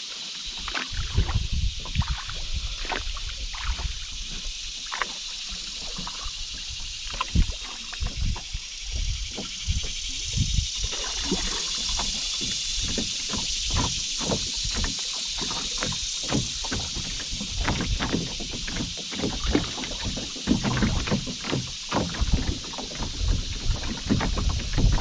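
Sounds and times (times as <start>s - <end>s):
river water gurgling: 0.0s - 25.0s
wind buffeting microphone: 0.9s - 4.8s, 5.4s - 21.2s, 22.0s - 25.0s.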